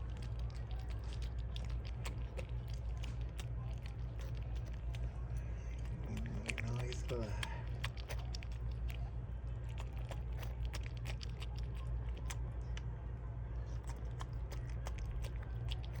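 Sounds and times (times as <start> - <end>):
dog licking with wet clicks: 0.0 - 12.9, 13.6 - 16.0
steady low hum: 0.0 - 16.0.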